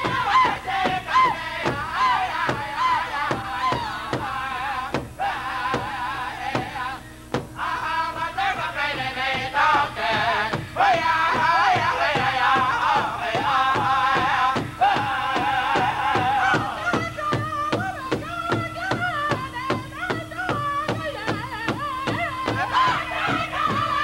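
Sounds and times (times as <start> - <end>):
bass drum steady beat: 0.0 - 24.0
group singing in unison: 0.0 - 24.0.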